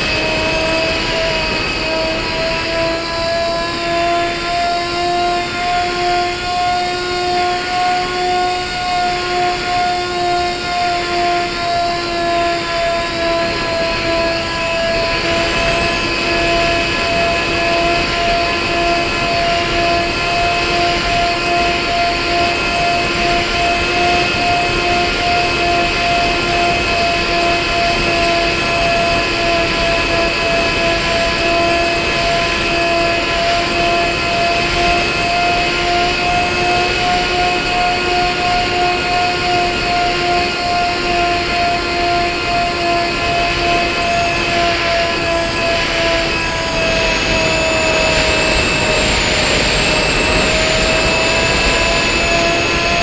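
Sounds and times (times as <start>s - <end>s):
model aircraft motor whine: 0.0s - 53.0s.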